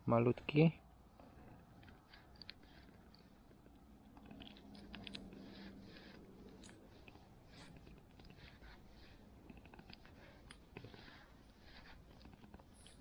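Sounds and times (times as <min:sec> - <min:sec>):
faint clicks and scratches of hands: 0:01.1 - 0:13.0.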